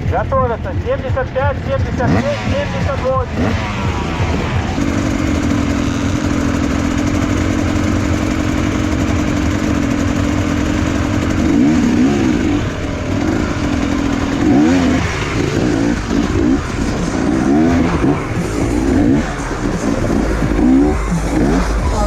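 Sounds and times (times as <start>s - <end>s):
motorcycle engines idling and revving: 0.0s - 22.0s.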